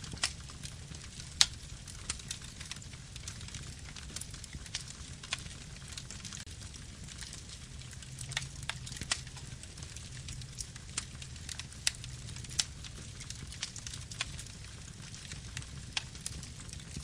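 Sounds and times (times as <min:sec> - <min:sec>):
low rumble of flame: 0:00.0 - 0:17.0
wood crackling and popping: 0:00.0 - 0:17.0.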